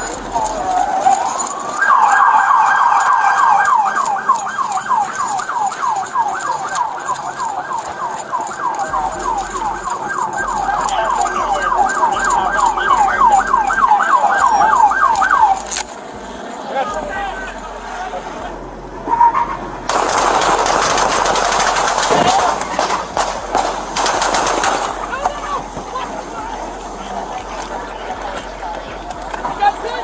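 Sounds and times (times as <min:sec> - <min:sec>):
police siren yelping: 0:00.0 - 0:16.0, 0:19.0 - 0:28.4.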